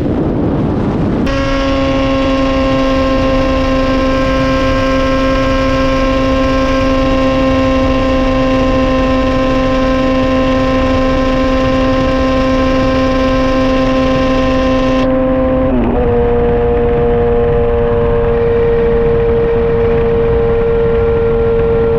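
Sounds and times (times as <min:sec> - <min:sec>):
motorcycle engine at high revs: 0:01.2 - 0:21.9.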